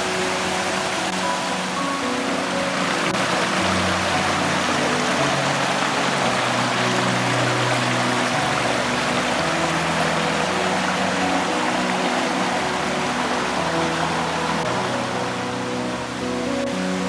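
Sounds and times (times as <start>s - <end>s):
soft music with low held notes: 0.0s - 17.0s
stream splashing over boulders: 0.0s - 17.0s.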